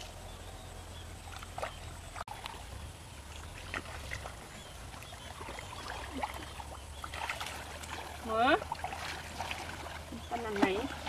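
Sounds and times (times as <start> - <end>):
muddy water sloshing: 0.0 - 11.0.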